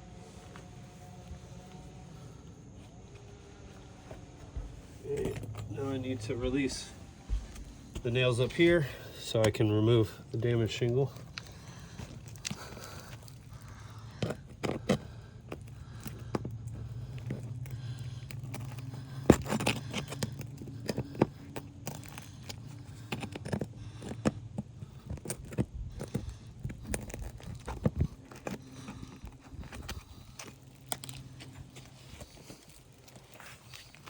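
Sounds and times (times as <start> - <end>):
steady low hum: 0.0 - 34.0
pry bar scraping shingles: 3.1 - 34.0.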